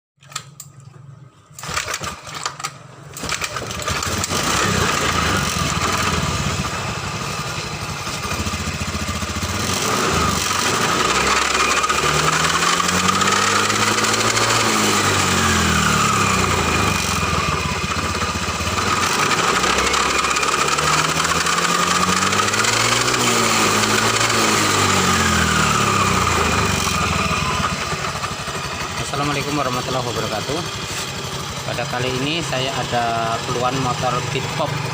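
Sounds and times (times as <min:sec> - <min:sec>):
scooter engine starting and revving: 0:01.6 - 0:34.9.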